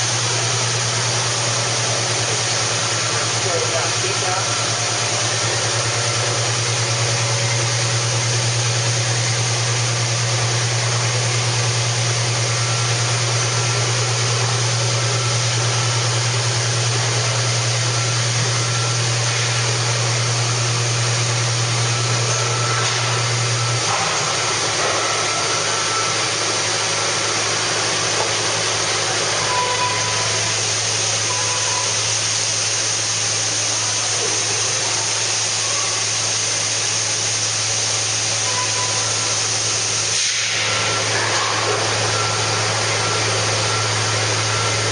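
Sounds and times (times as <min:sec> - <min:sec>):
industrial machine humming: 0:00.0 - 0:44.9.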